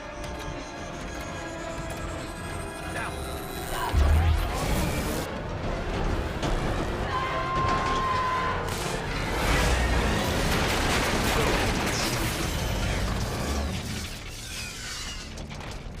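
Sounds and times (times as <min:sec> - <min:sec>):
film music score: 0:00.0 - 0:16.0.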